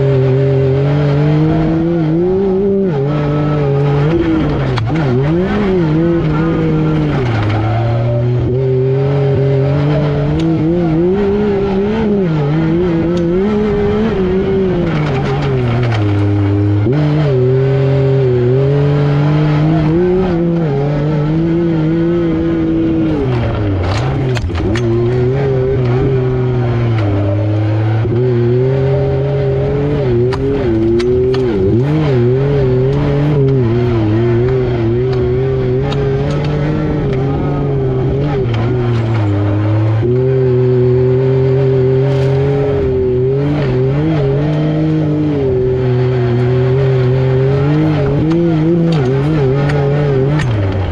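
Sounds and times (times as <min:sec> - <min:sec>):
engine running under load: 0:00.0 - 0:50.9.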